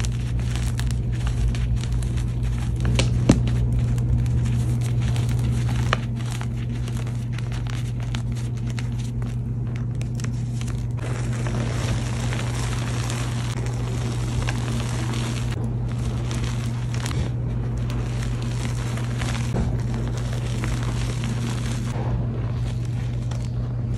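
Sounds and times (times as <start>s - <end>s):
chalk crackling and crunching: 0.0s - 23.9s
gritty rustle of powder: 0.0s - 23.9s
low hum: 0.0s - 23.9s.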